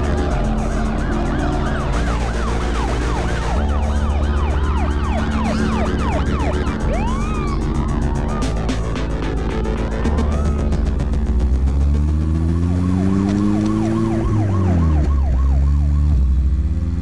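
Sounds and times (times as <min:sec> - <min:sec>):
police sirens yelping: 0:00.0 - 0:11.1, 0:12.7 - 0:16.4
background music with steady beat: 0:00.0 - 0:17.0.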